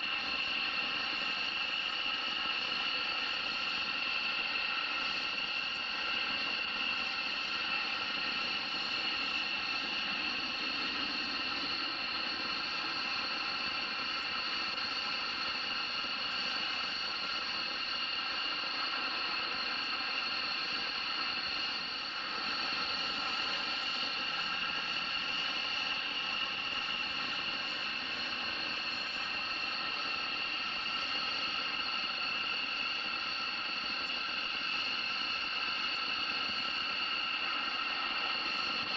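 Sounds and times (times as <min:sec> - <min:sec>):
aircraft turbine engines whining: 0:00.0 - 0:38.9.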